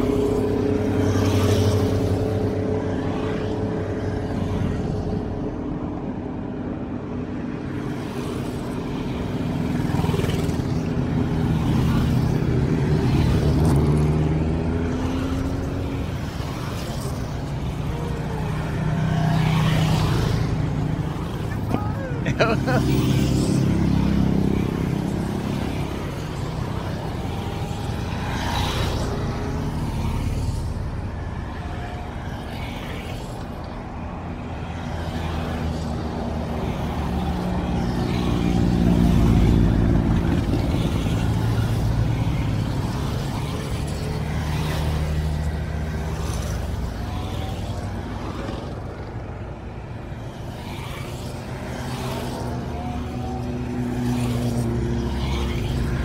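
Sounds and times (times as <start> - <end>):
motorcycles riding past: 7.6 - 56.0.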